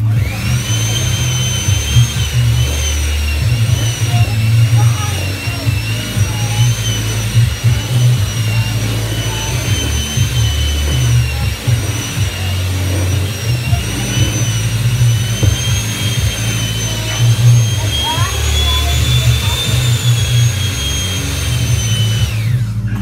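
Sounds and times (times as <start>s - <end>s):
electric hand mixer whining: 0.0s - 23.0s.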